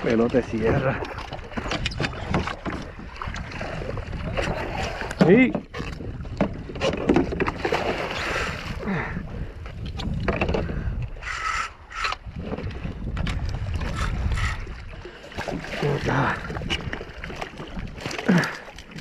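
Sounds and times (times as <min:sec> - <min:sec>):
water slapping hull: 0:00.0 - 0:19.0
wind buffeting microphone: 0:00.0 - 0:19.0.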